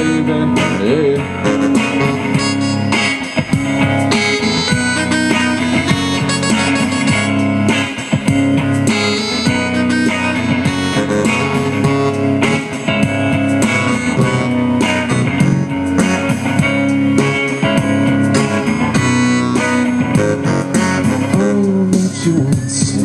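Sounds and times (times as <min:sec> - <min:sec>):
electric guitar: 0:00.0 - 0:23.0
keyboard playing: 0:00.0 - 0:23.0.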